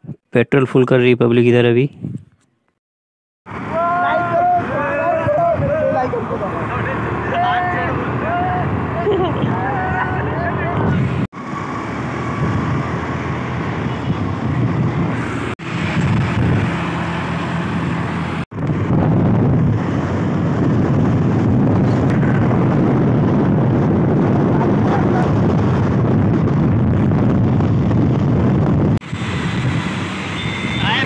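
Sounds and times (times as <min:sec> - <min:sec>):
wind rushing over microphone: 0:01.9 - 0:02.4, 0:03.5 - 0:31.0.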